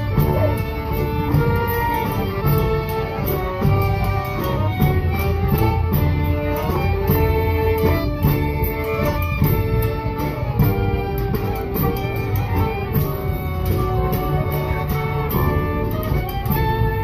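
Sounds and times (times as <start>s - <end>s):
accordions: 0.0s - 17.0s
fiddles: 0.0s - 17.0s.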